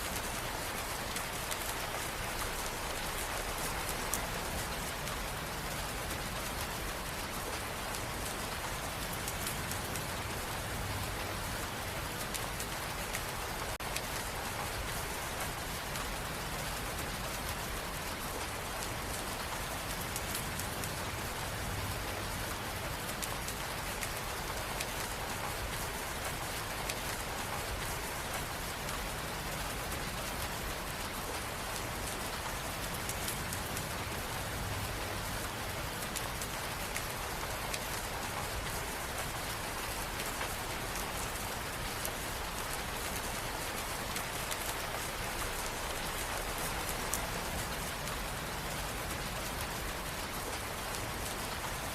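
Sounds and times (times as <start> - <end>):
rain pattering: 0.0 - 51.9.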